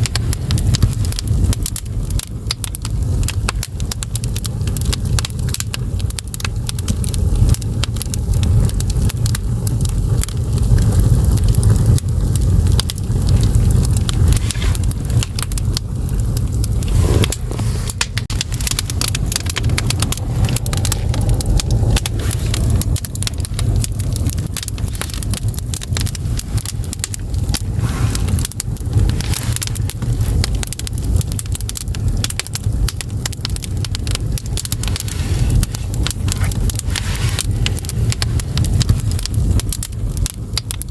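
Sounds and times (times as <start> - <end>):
low rumble of flames: 0.0 - 40.9
wood crackling and popping: 0.0 - 40.9.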